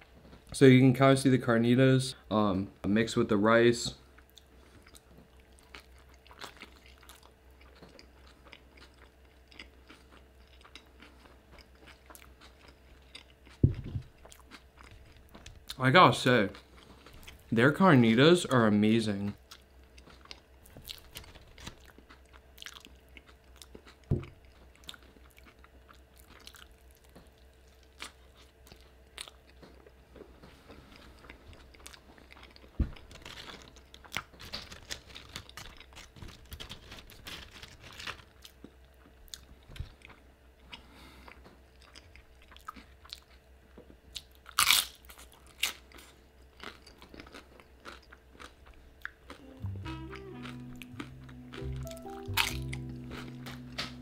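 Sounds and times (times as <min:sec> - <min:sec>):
person chewing food: 0:04.1 - 0:15.8, 0:16.5 - 0:17.5, 0:19.3 - 0:54.0.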